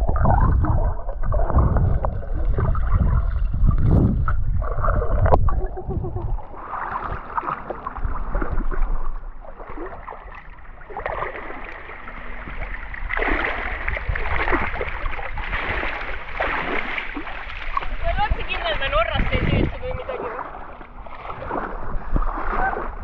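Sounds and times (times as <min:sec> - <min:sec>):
water lapping against camera: 0:00.0 - 0:23.0
water splashing from wading: 0:00.0 - 0:23.0.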